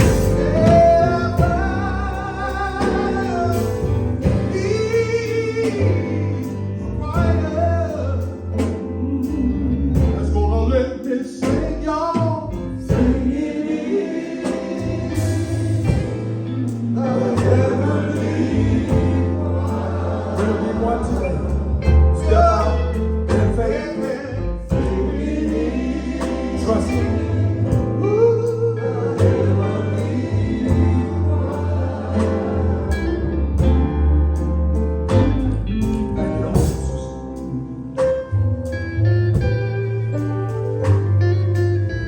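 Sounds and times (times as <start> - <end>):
gospel singing with accompaniment: 0.0 - 42.0.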